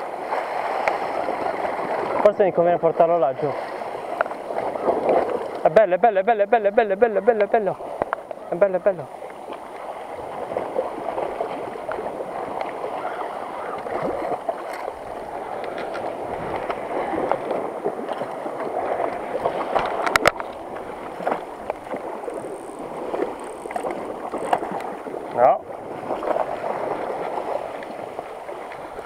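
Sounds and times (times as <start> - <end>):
sea water sloshing against rocks: 0.0 - 29.0.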